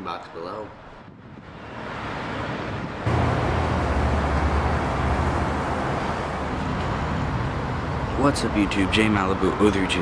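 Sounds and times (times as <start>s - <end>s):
road traffic rumble and hiss: 0.0s - 10.0s.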